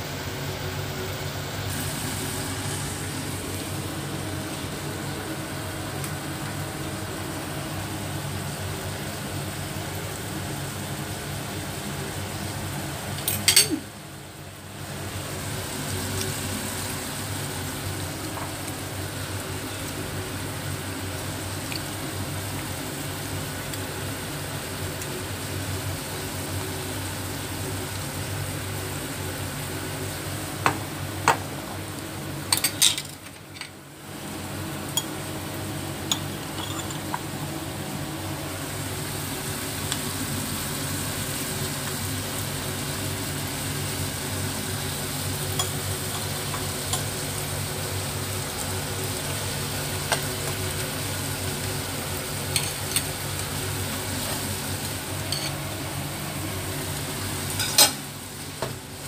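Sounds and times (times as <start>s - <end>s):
meat sizzling in frying pan: 0.0s - 59.0s.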